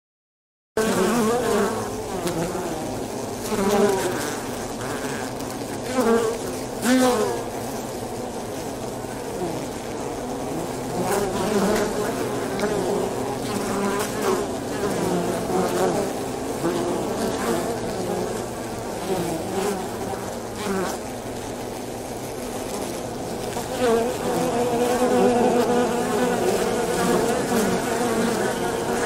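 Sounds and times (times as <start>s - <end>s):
wasp swarm buzzing: 0.8s - 29.0s.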